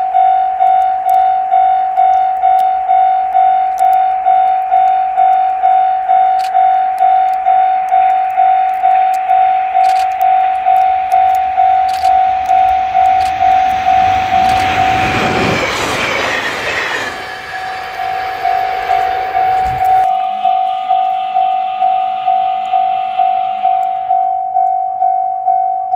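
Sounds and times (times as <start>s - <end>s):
level crossing bell ringing: 0.0s - 14.1s, 18.0s - 25.9s
train passing on rails: 4.2s - 25.5s.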